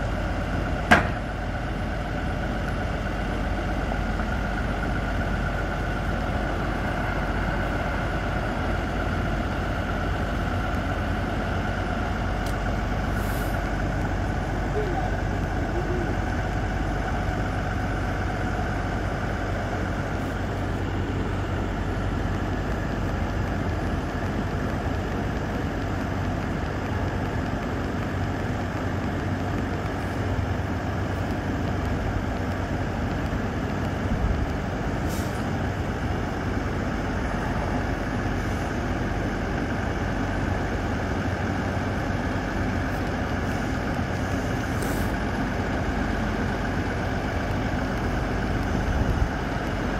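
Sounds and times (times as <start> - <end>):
truck engine humming: 0.0 - 49.9.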